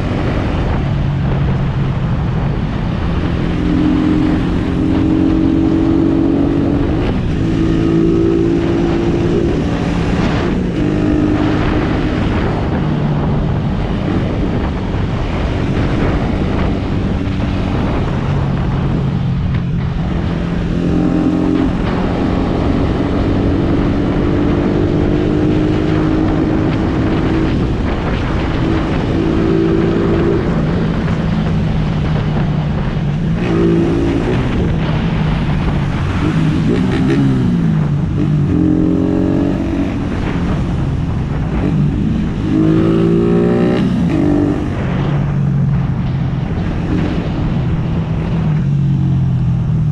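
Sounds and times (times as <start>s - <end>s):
motorcycle engine revving: 0.0s - 49.9s
wind and road noise: 0.0s - 49.9s.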